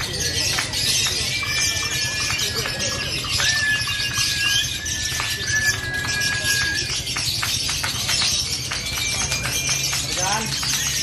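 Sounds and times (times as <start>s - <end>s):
lovebirds chattering: 0.0s - 11.0s.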